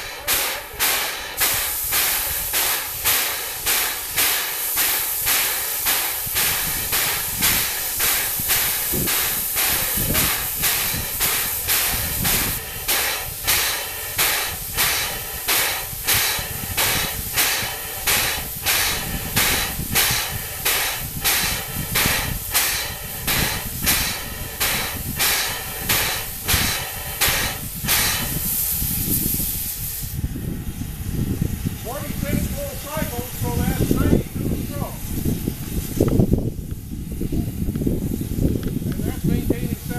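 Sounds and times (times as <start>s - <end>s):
steam exhaust chuffing: 0.0s - 39.9s.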